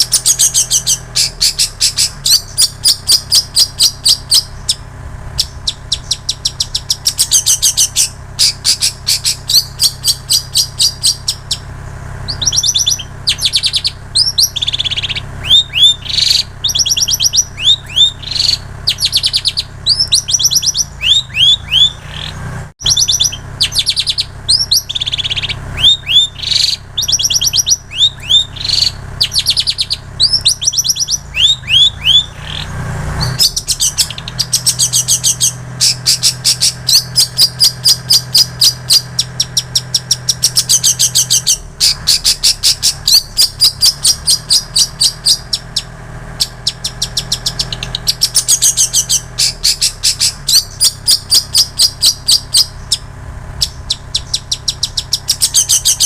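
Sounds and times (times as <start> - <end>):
bird singing fast trills: 0.0 - 56.0.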